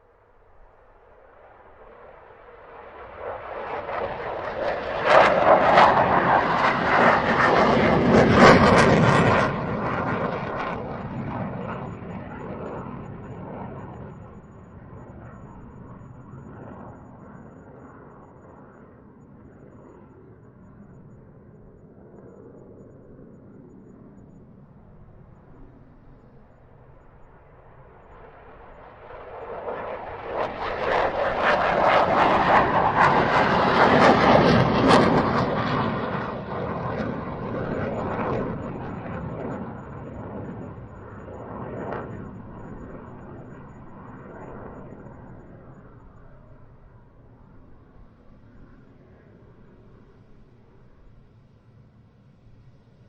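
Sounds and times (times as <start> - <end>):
jet engine roar: 0.0 - 53.0.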